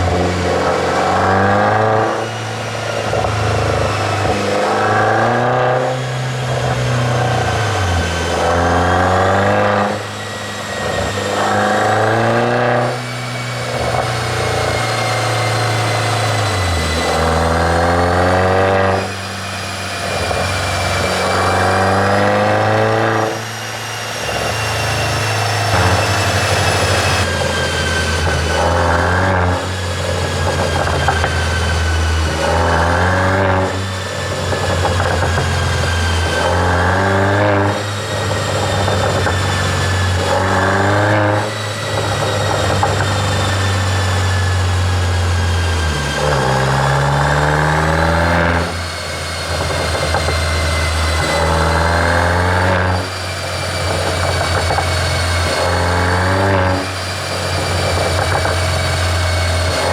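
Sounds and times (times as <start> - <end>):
car engine revving: 0.0 - 59.9
exhaust crackling: 0.0 - 59.9.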